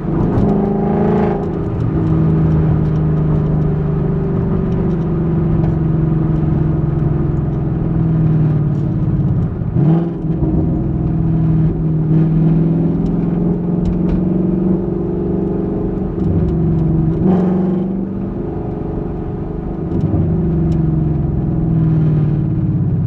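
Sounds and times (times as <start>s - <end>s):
car exhaust while driving: 0.0s - 23.0s.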